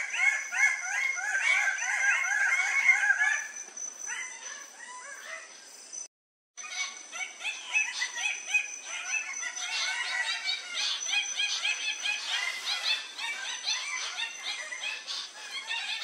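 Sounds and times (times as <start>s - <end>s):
birds giving rapid calls: 0.0s - 5.5s, 6.6s - 16.0s.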